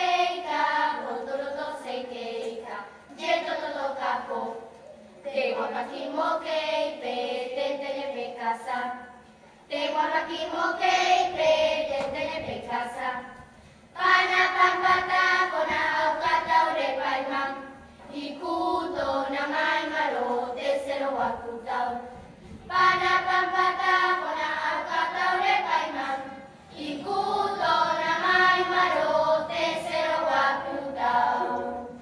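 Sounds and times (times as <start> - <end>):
group of voices singing: 0.0 - 4.7, 5.3 - 13.4, 14.0 - 32.0.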